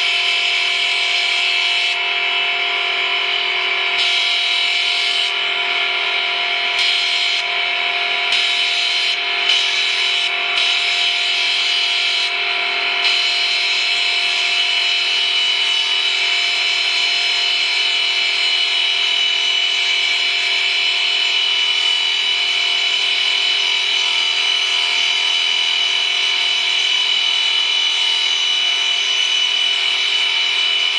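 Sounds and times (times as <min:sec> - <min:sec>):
high-pitched machine whine: 0:00.0 - 0:30.9.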